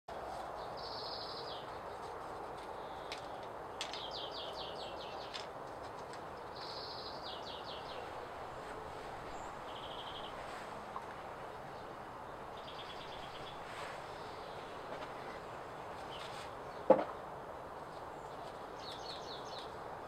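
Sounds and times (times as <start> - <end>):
outdoor background rush: 0.1 - 20.0.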